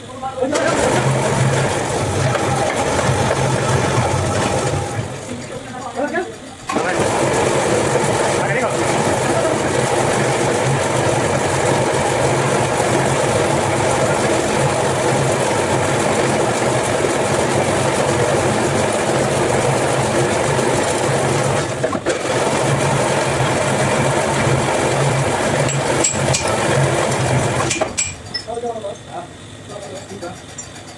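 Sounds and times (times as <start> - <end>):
machine motor running: 0.3 - 30.9.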